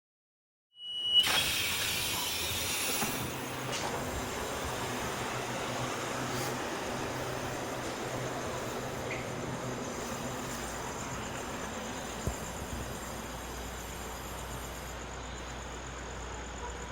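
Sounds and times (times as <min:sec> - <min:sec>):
train rumble and hiss: 0:00.8 - 0:16.9.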